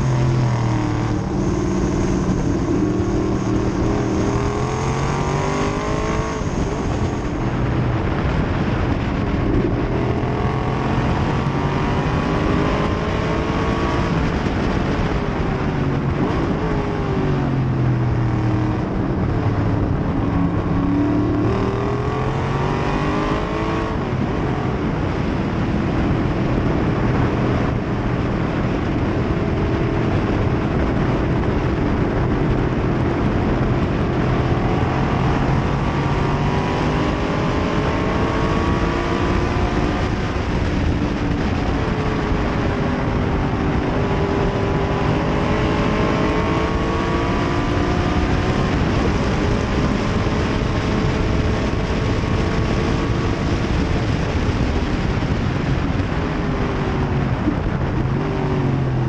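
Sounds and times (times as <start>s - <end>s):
race car engine revving: 0.0s - 25.4s, 26.0s - 59.0s
steady rush of noise: 0.0s - 59.0s.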